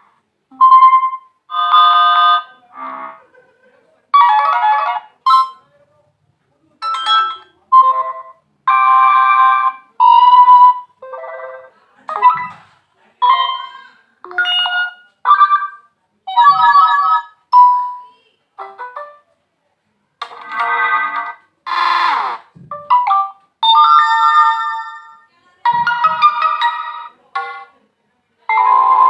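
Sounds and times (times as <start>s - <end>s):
phone notification tones: 0.5s - 3.2s, 4.2s - 5.6s, 6.8s - 19.2s, 20.2s - 27.7s, 28.5s - 29.0s.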